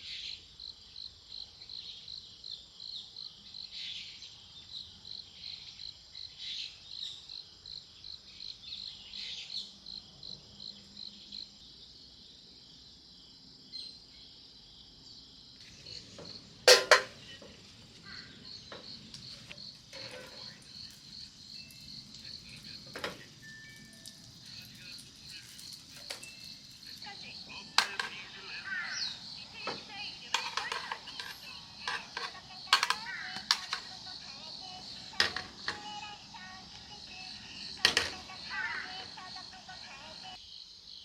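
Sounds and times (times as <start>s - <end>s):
insects chirping in pulses: 0.2s - 41.0s.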